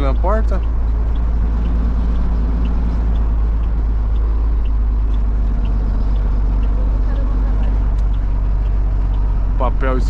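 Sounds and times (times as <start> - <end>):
diesel truck engine rumbling: 0.0 - 10.0
light ticking: 0.0 - 10.0.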